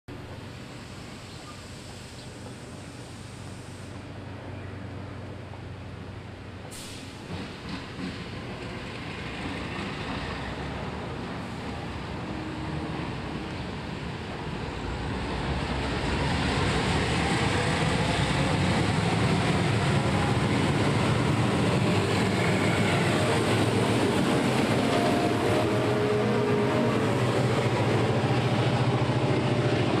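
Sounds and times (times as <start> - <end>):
diesel locomotive engines droning: 0.1 - 30.0.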